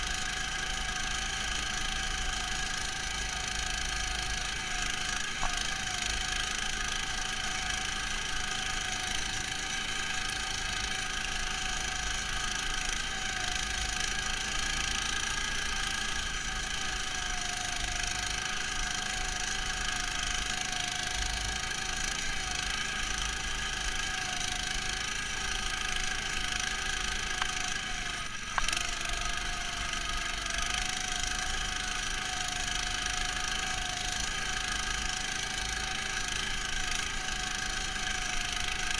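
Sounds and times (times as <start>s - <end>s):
muffled tractor engine running: 0.0s - 38.9s.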